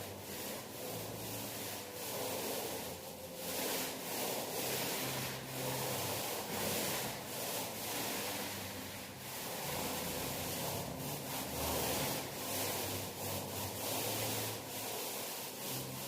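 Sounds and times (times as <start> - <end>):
paint rubbing on a wall: 0.0 - 16.0.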